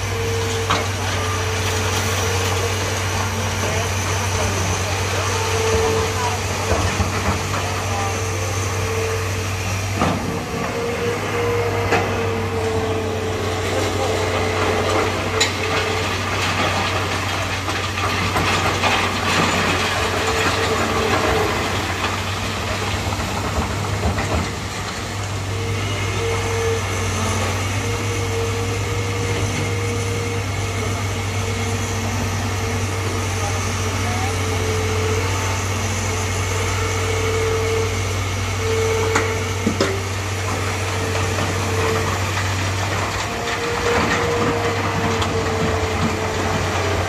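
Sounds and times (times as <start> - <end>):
excavator diesel engine running: 0.0 - 47.0
hydraulic whine: 0.0 - 47.0.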